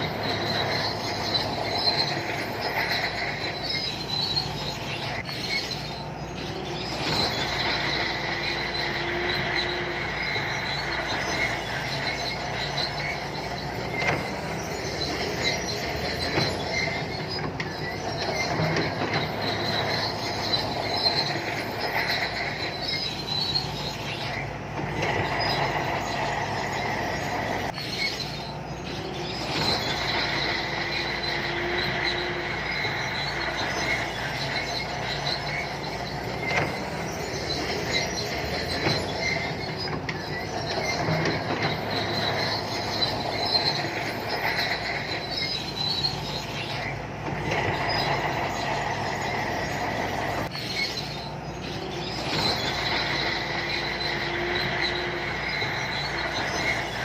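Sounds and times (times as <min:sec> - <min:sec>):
bulldozer diesel engine: 0:00.0 - 0:57.0
steel tracks squealing and clanking: 0:00.0 - 0:57.0.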